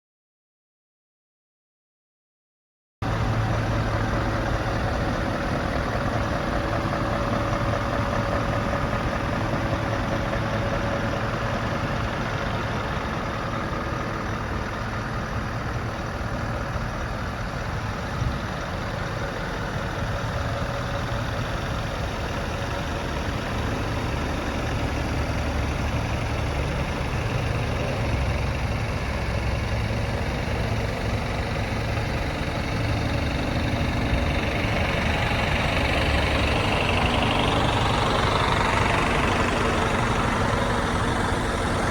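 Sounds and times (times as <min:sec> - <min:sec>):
diesel engine idling: 0:03.0 - 0:41.9.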